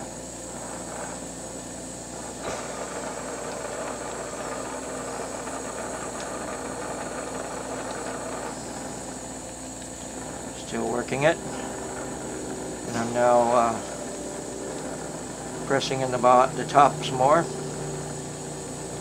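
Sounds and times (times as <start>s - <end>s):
bench torch hissing: 0.0s - 19.0s
steady hum: 0.0s - 19.0s.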